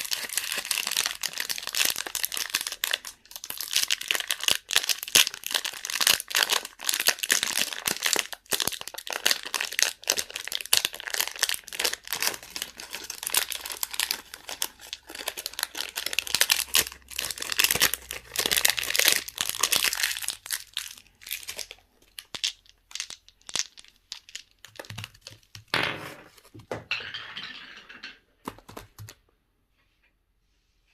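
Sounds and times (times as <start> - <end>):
plastic wrappers crinkling: 0.0 - 25.7.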